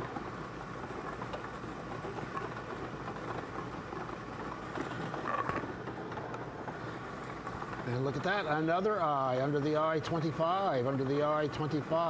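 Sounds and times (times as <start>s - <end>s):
ball blower running: 0.0s - 12.0s
balls rattling and clicking: 0.0s - 12.0s.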